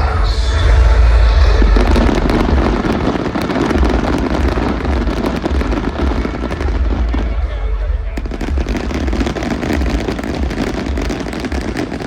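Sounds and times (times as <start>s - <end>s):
firework crackling: 1.3s - 12.0s
firework shells booming: 1.7s - 12.0s.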